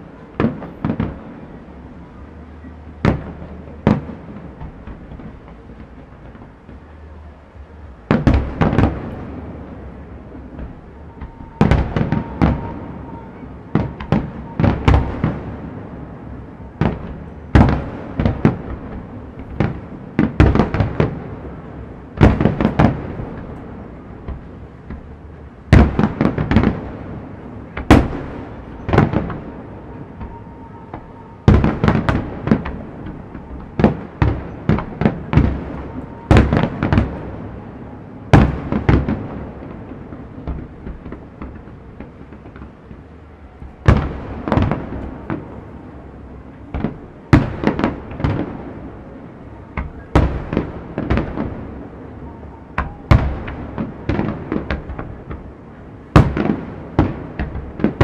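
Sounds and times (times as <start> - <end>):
fireworks bursting with sharp bangs: 0.0 - 58.0.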